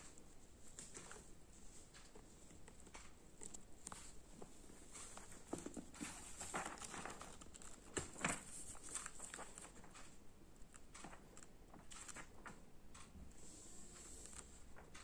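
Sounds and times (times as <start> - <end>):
book pages rustling: 0.0 - 15.0.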